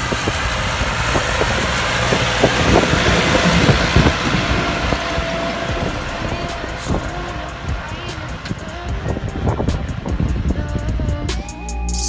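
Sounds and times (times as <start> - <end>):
tractor engine under load: 0.0 - 11.3.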